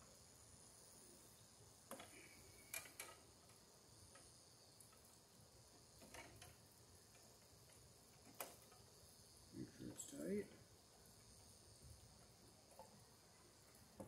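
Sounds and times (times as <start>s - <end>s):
faint steady high hiss: 0.0s - 14.0s.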